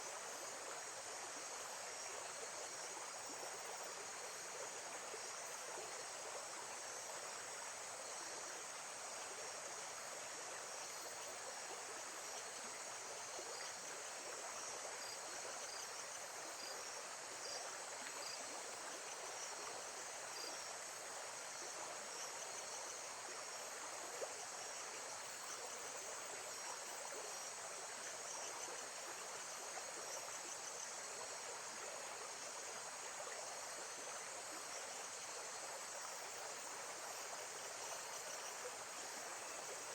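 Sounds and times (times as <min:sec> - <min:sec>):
faint high insect chirps: 0:00.0 - 0:39.9.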